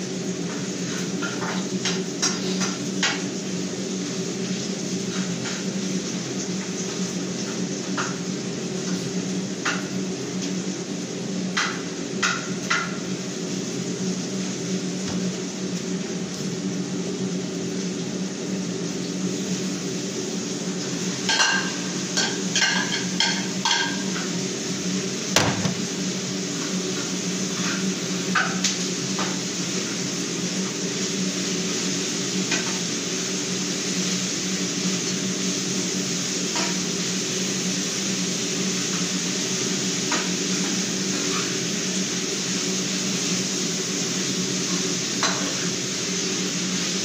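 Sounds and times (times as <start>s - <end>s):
steady mechanical hum: 0.0s - 47.0s.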